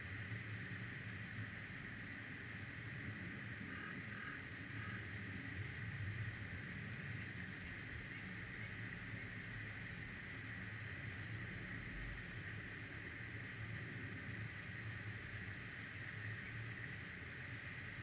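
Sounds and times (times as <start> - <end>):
constant hiss: 0.0 - 18.0.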